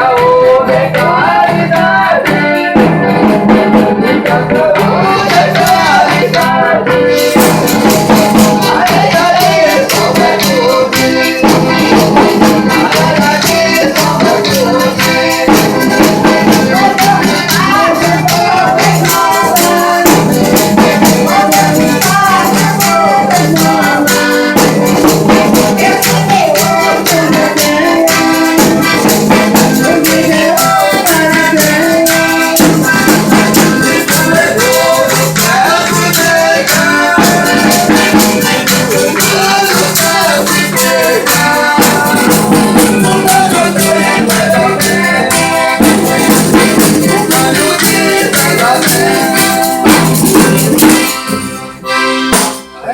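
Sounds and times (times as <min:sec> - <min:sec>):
shaken percussion rhythm: 0:00.0 - 0:52.9
voices singing: 0:00.0 - 0:52.9.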